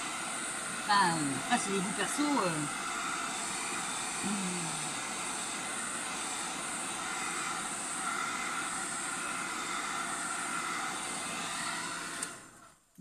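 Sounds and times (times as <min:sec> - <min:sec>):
hair dryer running: 0:00.0 - 0:12.9.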